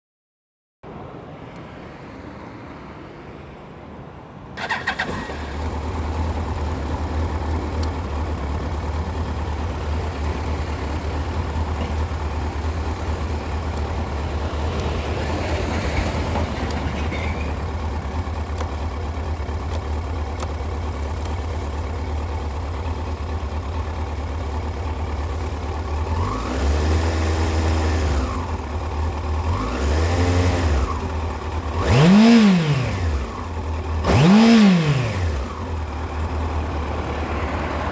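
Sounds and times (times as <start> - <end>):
motorcycle engine revving: 4.6 - 16.6, 17.3 - 37.9
motorcycle engine starting and idling: 4.6 - 37.9.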